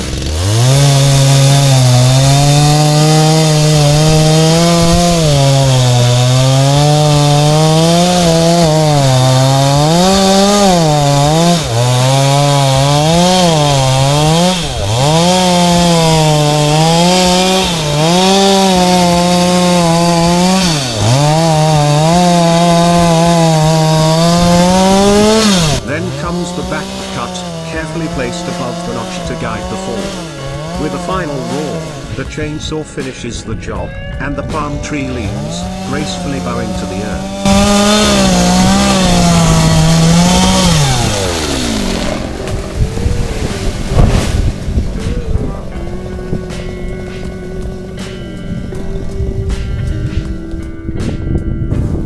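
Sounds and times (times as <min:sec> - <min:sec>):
chainsaw cutting tree trunk: 0:00.0 - 0:51.4.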